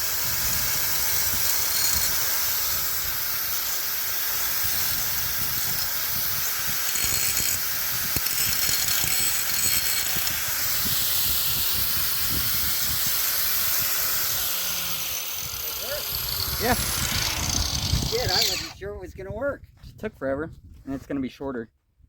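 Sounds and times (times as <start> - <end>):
angle grinder cutting metal pipe: 0.0 - 18.8.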